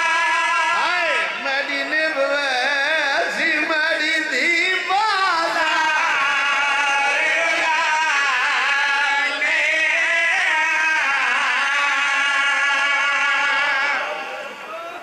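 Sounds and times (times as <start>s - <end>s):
men chanting through loudspeaker: 0.0s - 15.0s.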